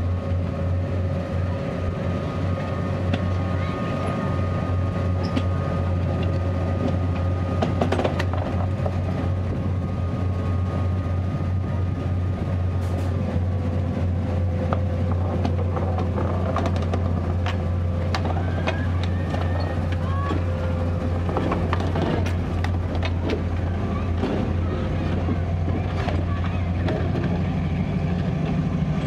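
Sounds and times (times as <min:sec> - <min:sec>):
electric locomotive humming: 0:00.0 - 0:29.0.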